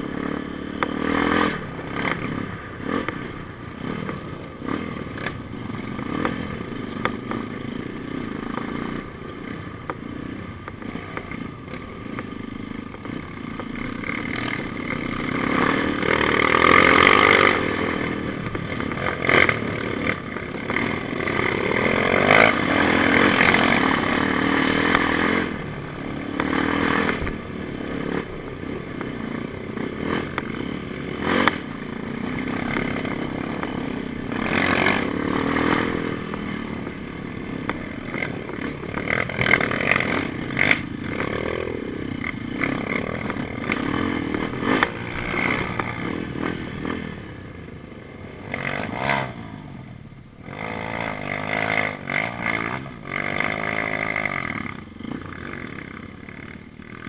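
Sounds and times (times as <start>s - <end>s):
motorcycle engine revving: 0.0s - 57.0s
bike clattering and scraping: 0.8s - 49.3s.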